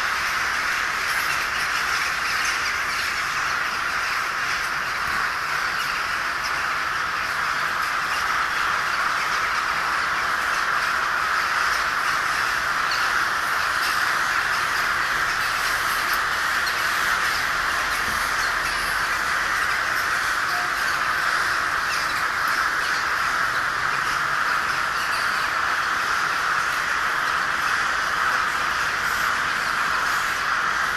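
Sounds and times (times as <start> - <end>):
flock of crows cawing: 0.0 - 30.9.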